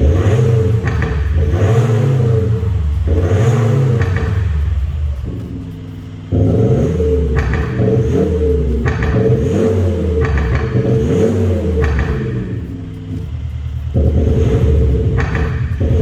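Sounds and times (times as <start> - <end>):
synthesized exhaust note revving: 0.0 - 16.0.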